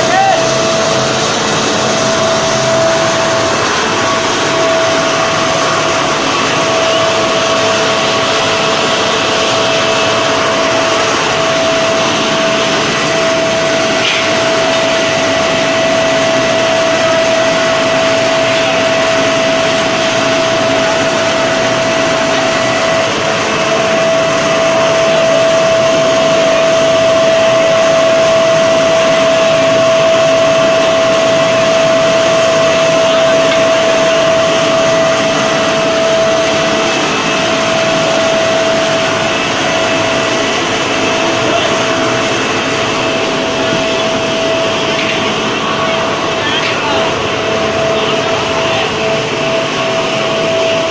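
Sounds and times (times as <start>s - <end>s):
blower whining: 0.0s - 50.9s.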